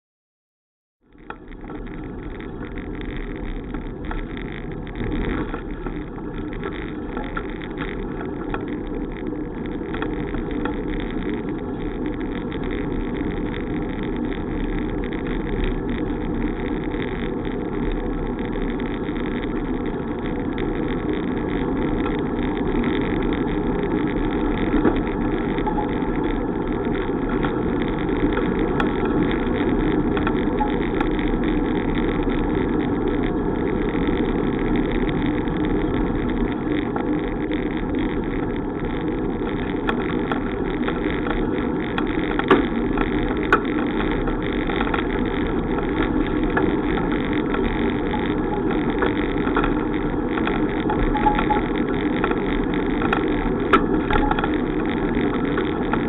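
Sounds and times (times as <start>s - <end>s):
bicycle road and wind noise: 1.0s - 56.0s.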